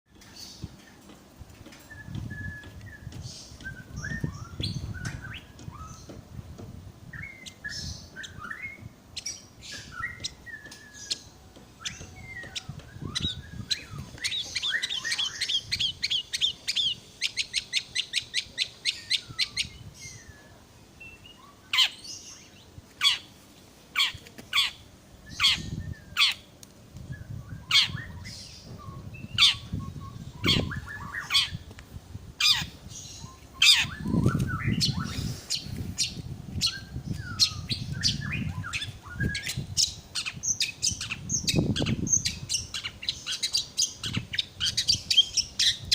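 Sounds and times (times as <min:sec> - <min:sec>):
songbird singing: 0:00.1 - 0:45.9.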